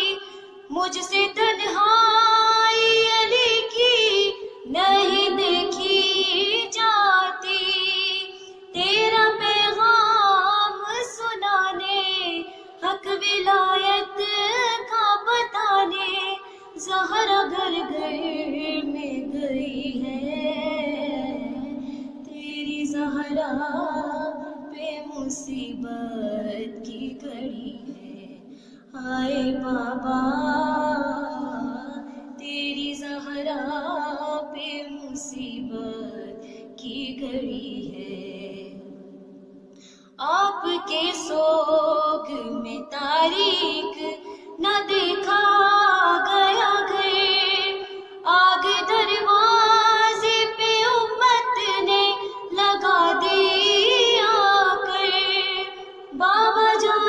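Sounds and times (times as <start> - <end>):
woman singing a lament: 0.0 - 39.0, 40.2 - 57.0.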